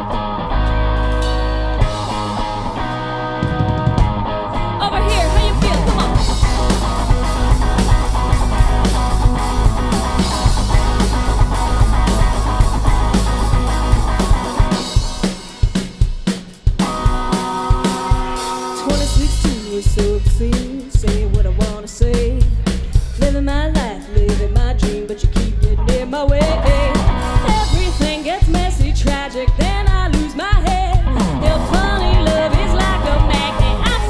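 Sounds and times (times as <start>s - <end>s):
electric guitar: 0.0s - 22.2s, 23.3s - 34.0s
bass: 0.0s - 34.0s
drum kit: 0.0s - 34.0s.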